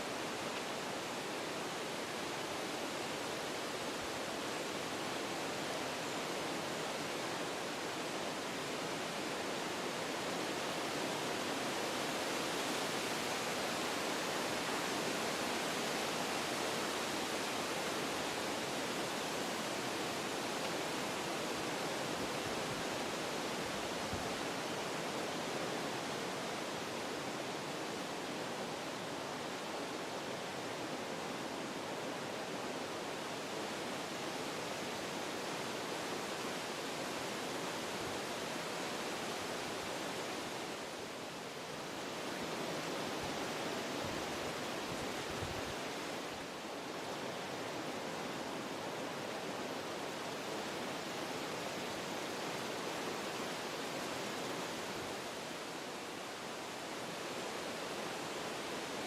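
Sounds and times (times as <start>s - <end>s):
wind through trees: 0.0s - 59.0s.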